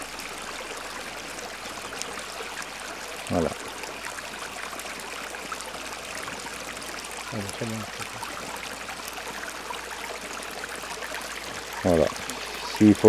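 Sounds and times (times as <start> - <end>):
water trickling over cascades: 0.0 - 13.0.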